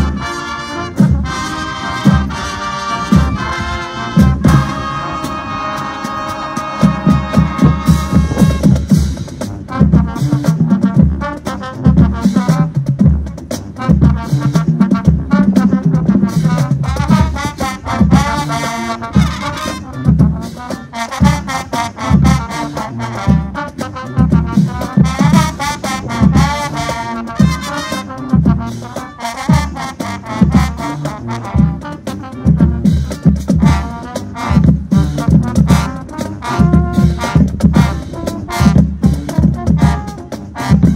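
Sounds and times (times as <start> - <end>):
marching band brass music: 0.0 - 40.9.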